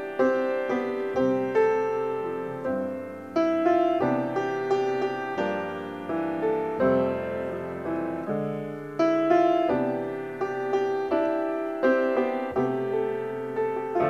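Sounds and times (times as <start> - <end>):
slow grand piano piece: 0.0 - 14.0.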